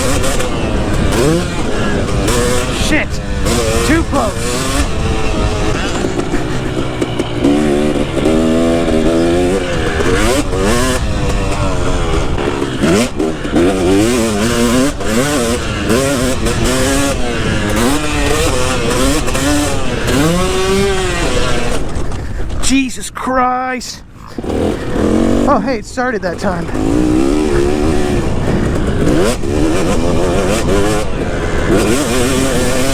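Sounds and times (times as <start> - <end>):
two-stroke motocross engine revving: 0.0 - 32.9.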